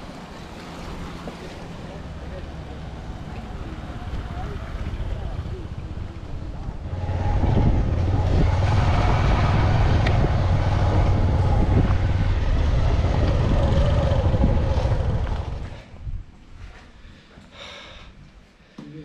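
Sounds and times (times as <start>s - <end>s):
vehicle engine rumble: 0.0s - 16.4s.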